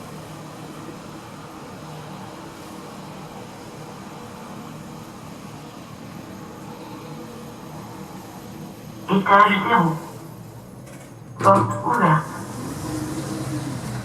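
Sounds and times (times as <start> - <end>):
lift car running hum: 0.0 - 14.0.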